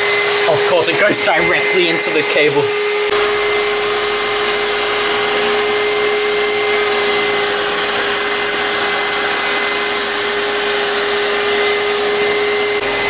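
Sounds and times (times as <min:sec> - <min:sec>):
high motor whine: 0:00.0 - 0:13.0
robot vacuum suction rush: 0:00.0 - 0:13.0.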